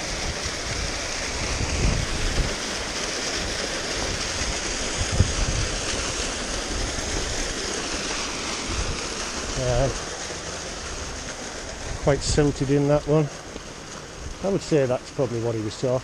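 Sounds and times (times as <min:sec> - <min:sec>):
waterfall splashing into pool: 0:00.0 - 0:16.0.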